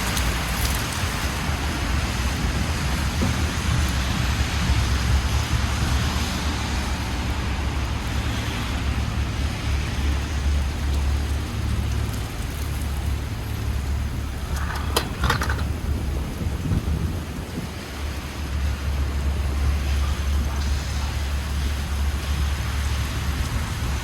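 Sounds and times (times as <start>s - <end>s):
passing traffic rumble: 0.0s - 24.0s
rain on street: 0.0s - 24.0s.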